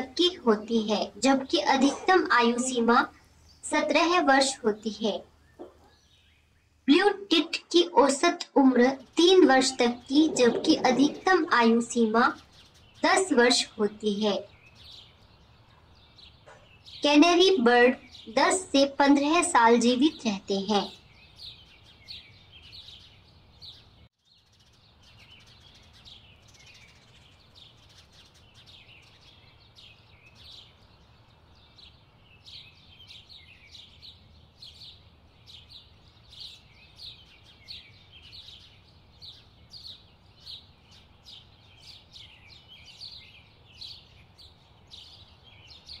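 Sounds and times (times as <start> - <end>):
small songbirds chirping: 0.0 - 46.0.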